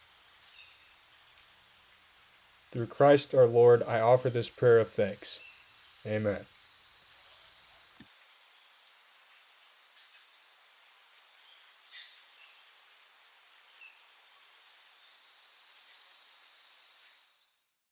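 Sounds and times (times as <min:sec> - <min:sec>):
insects chirring in pulsing trill: 0:00.0 - 0:17.9.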